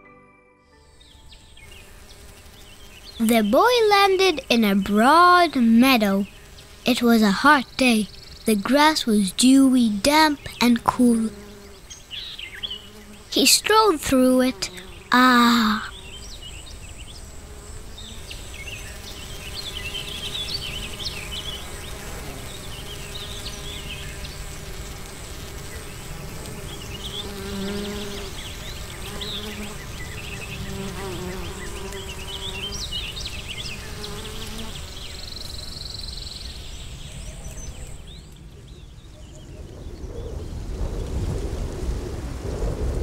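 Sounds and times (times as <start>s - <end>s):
bee buzzing: 1.0s - 36.8s.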